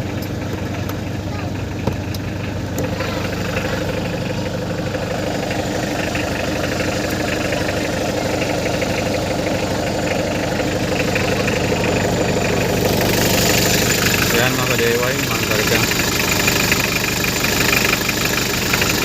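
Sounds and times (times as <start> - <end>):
van engine idling: 0.0 - 19.0.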